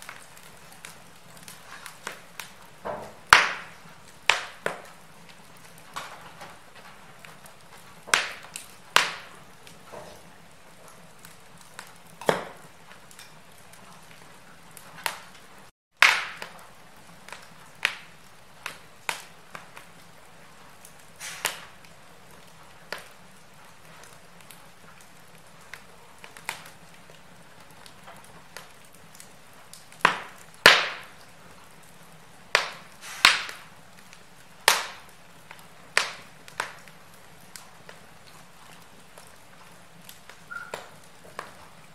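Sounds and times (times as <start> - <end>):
faint steady hiss: 0.0 - 41.9
wood fire crackling and popping: 0.0 - 41.9.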